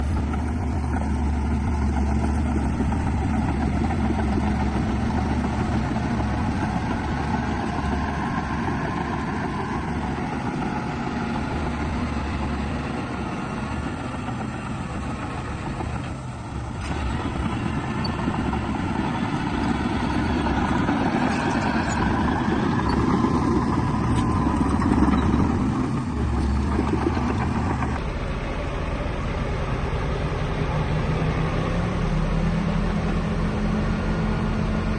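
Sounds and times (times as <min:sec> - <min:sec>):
heavy diesel machinery working: 0:00.0 - 0:34.9.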